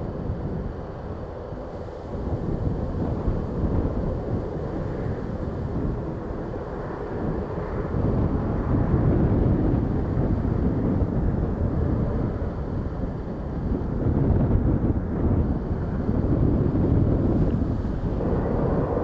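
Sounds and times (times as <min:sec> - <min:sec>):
wind buffeting microphone: 0:00.0 - 0:19.0
jet engines rumbling: 0:02.3 - 0:19.0.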